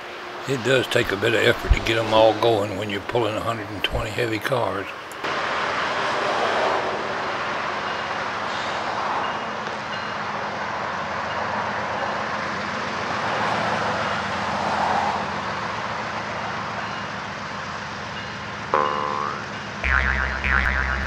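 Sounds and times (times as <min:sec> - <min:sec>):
diesel locomotives droning under load: 0:00.0 - 0:21.0.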